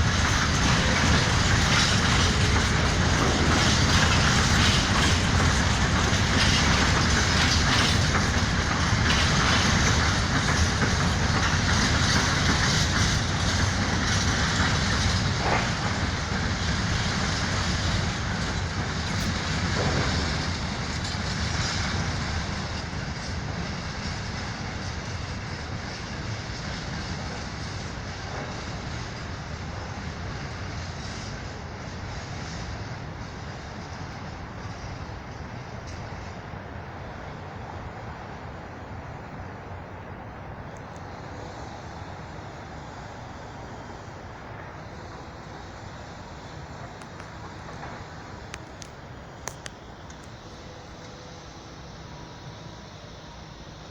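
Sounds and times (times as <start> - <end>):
freight train wagons rumbling clatter: 0.0 - 53.8.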